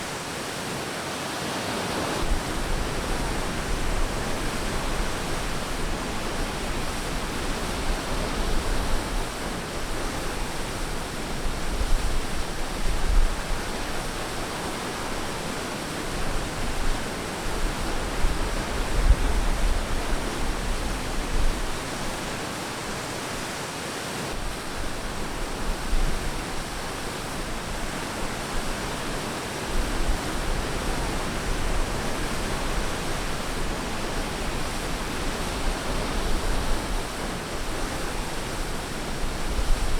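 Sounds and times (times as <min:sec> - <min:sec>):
ocean waves washing on beach: 0:00.0 - 0:39.9
low rumbling breaking waves: 0:01.6 - 0:23.5, 0:24.2 - 0:39.9.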